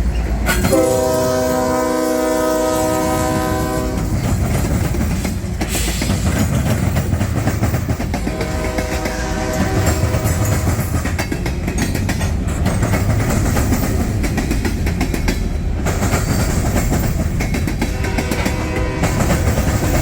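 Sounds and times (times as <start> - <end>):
freight train rumbling past: 0.0 - 20.0
wheels clicking over rail joints: 0.0 - 20.0.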